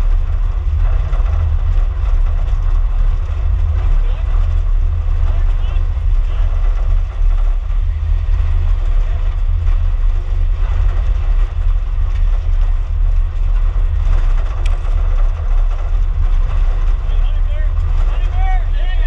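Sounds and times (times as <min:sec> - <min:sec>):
vehicle interior rumble: 0:00.0 - 0:19.0.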